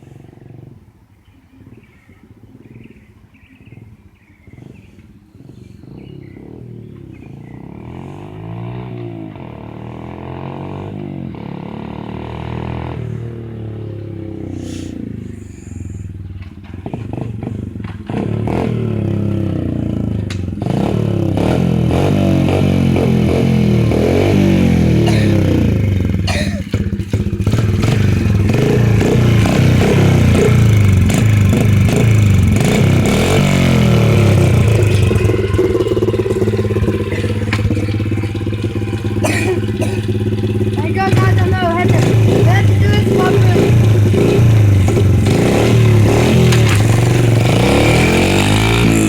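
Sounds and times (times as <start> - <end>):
dirt bike engine revving: 6.4 - 49.0.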